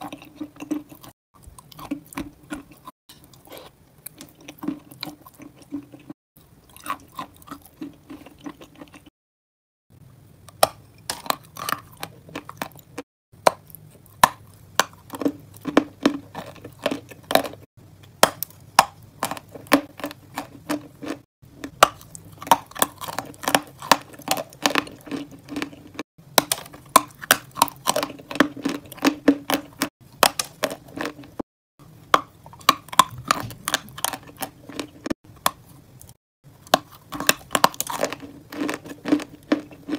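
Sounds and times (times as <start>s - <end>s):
mouth chewing and biting: 0.0s - 9.1s, 10.6s - 31.4s, 32.2s - 39.9s.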